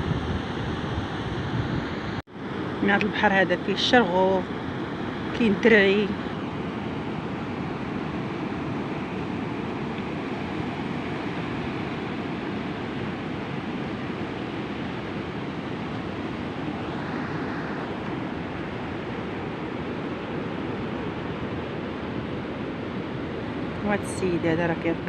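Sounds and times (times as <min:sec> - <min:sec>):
sea surf on rocky shore: 0:02.3 - 0:25.0.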